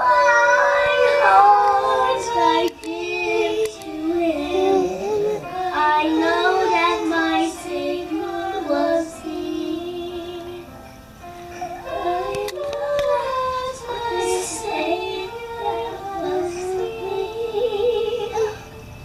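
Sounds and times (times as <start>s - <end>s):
child singing slow tune: 0.0s - 19.0s.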